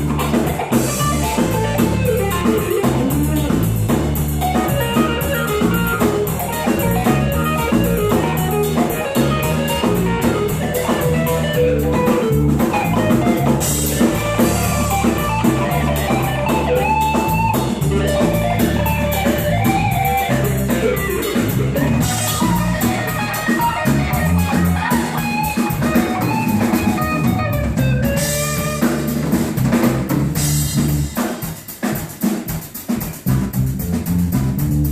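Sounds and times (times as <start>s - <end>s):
drum kit: 0.0s - 34.9s
electric guitar: 0.0s - 34.9s
live band playing: 0.0s - 34.9s.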